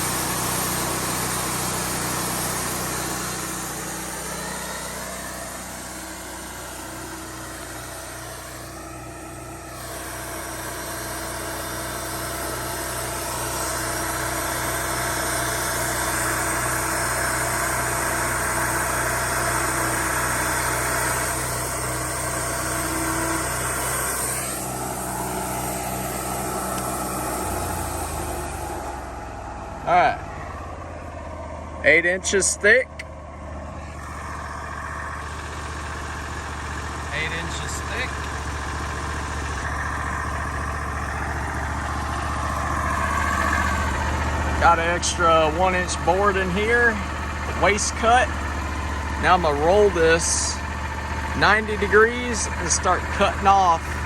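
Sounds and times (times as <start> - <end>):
sawmill engine hum: 0.0 - 54.0.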